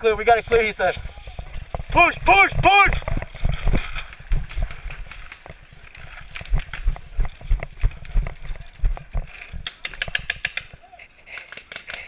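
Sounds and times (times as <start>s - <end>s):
running footsteps: 0.2s - 10.8s.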